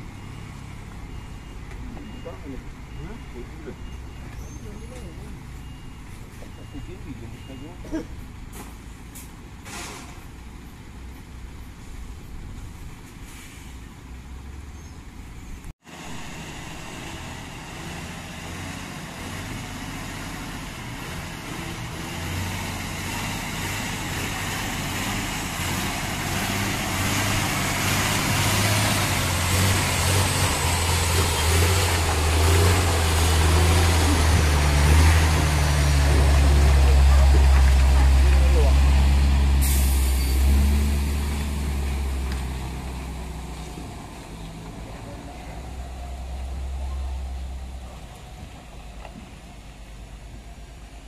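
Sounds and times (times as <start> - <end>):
truck diesel engine passing: 0.0 - 51.0.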